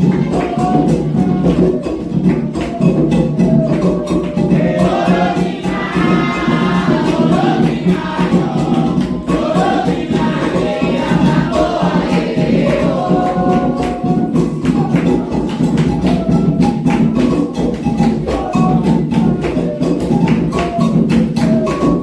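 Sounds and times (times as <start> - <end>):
group of voices singing: 0.0 - 22.0
hand drumming: 0.0 - 22.0
light rattling percussion: 0.0 - 22.0.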